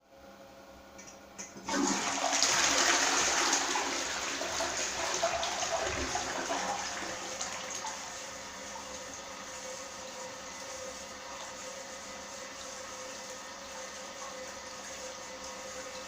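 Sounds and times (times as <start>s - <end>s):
toilet flushing: 1.4s - 16.0s.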